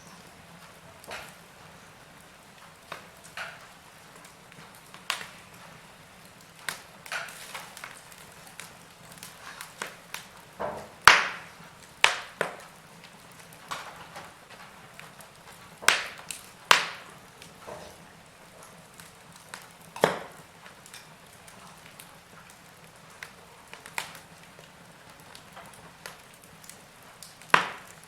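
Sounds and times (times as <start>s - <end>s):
faint steady hiss: 0.0s - 28.0s
wood fire crackling and popping: 0.0s - 28.0s.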